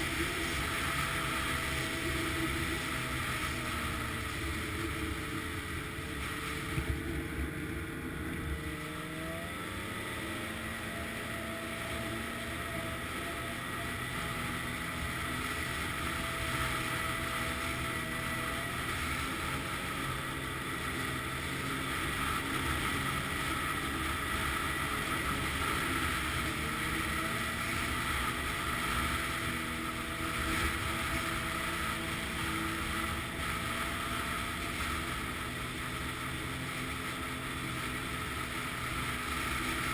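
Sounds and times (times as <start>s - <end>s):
snowmobile engine running: 0.0s - 39.9s
steady rushing noise: 0.0s - 39.9s.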